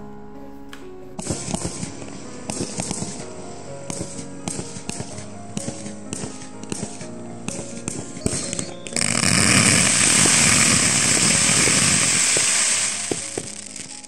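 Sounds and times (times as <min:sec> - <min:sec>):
background music: 0:00.0 - 0:14.0
fireworks crackling hiss: 0:01.2 - 0:14.0.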